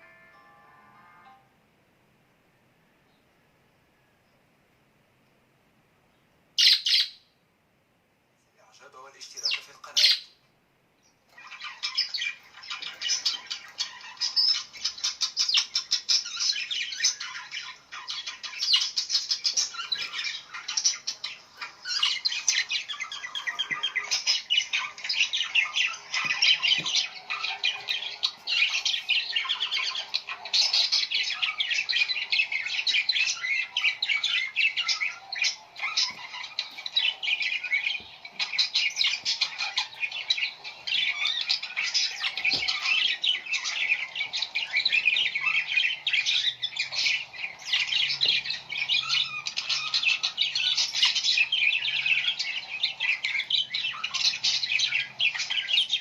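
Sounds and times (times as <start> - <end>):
birds chirping and squawking: 0.0 - 1.5, 6.6 - 7.4, 9.0 - 56.0.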